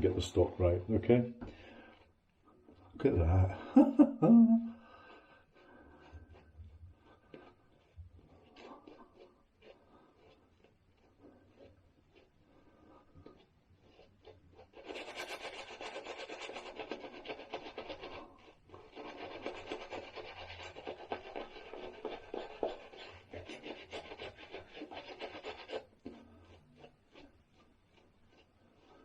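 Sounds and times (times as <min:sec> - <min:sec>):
shaving brush scrubbing lather: 0:00.0 - 0:29.0.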